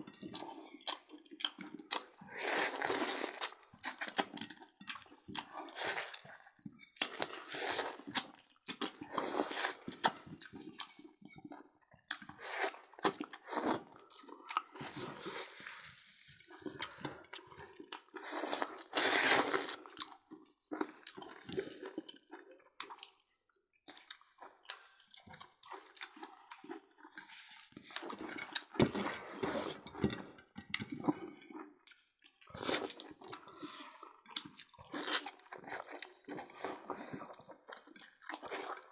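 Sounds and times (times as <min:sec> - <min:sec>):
people chewing and biting: 0:00.0 - 0:38.9.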